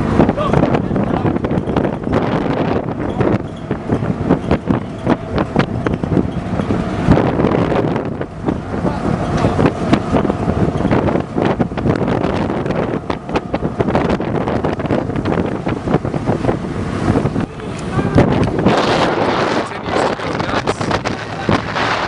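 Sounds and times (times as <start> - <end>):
ship engines running: 0.0 - 22.0
wind buffeting microphone: 0.0 - 22.0.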